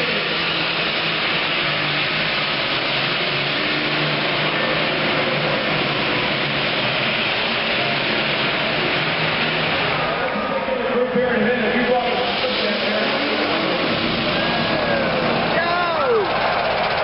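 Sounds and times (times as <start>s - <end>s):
diesel tractor engine under load: 0.0s - 17.0s.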